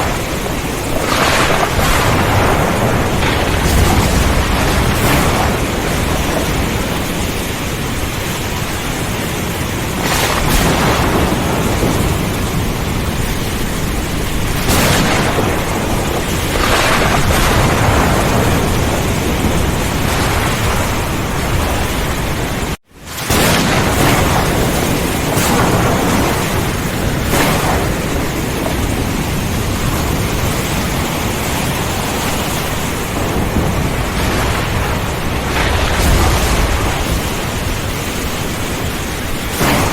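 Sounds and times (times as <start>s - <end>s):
heavy rain: 0.0s - 39.9s
thunder rumbling: 0.0s - 39.9s.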